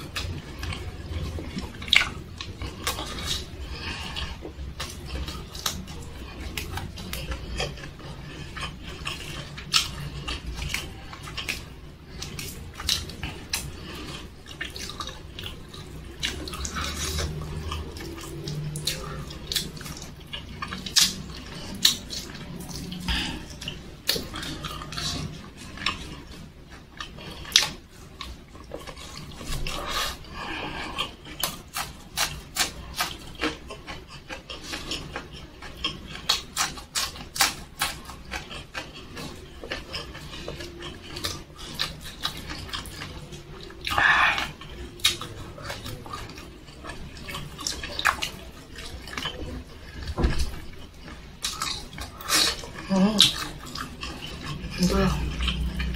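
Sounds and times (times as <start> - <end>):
wet chewing and lip smacking: 0.0 - 55.9.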